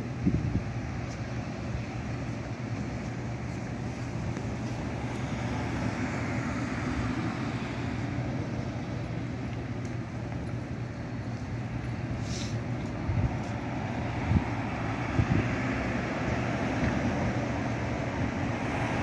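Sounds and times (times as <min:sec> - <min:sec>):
traffic hiss and hum: 0:00.0 - 0:19.0.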